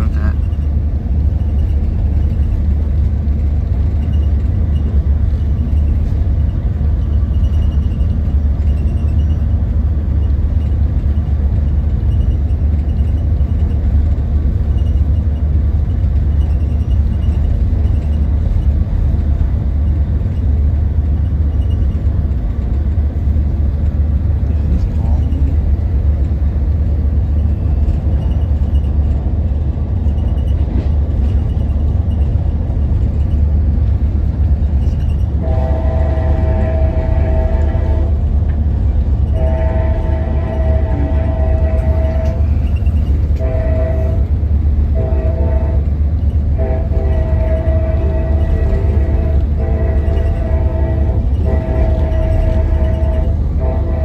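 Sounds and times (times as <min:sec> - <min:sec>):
train interior rumble: 0:00.0 - 0:54.0.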